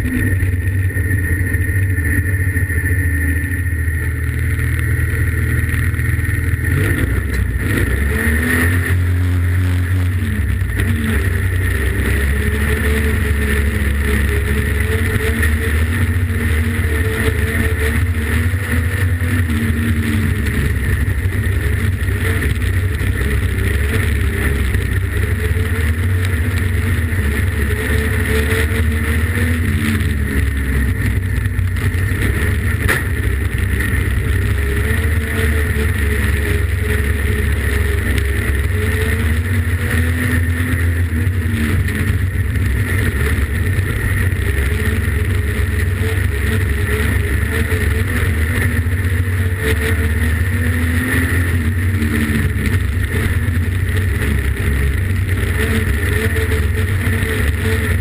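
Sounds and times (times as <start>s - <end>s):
race car engine rumbling: 0.0s - 58.0s.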